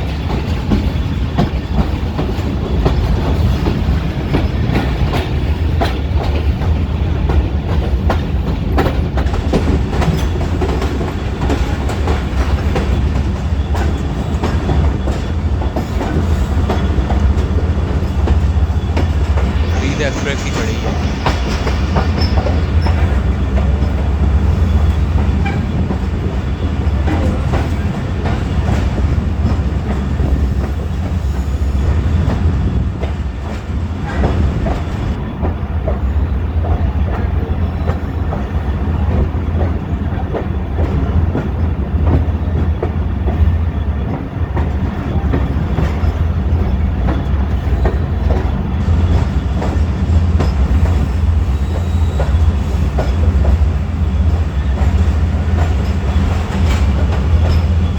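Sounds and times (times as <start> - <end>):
clicks and knocks of train: 0.0 - 57.9
train rumble: 0.0 - 57.9.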